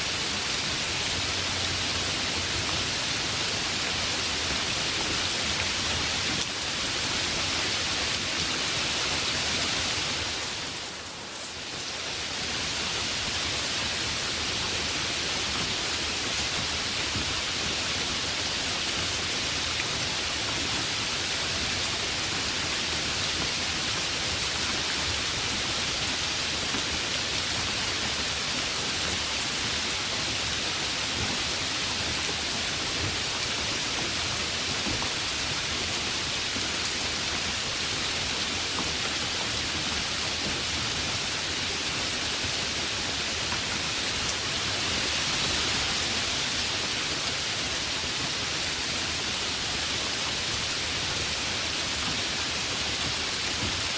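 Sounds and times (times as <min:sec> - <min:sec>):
heavy rain: 0:00.0 - 0:53.9.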